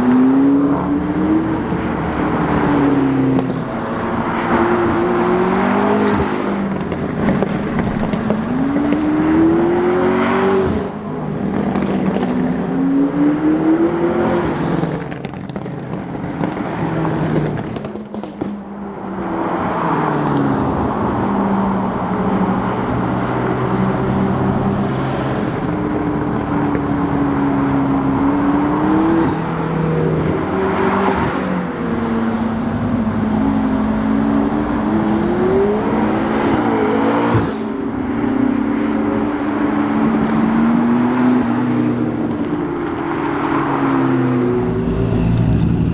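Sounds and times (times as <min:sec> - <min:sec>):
car engine revving: 0:00.0 - 0:15.3, 0:16.0 - 0:38.3, 0:39.4 - 0:45.9.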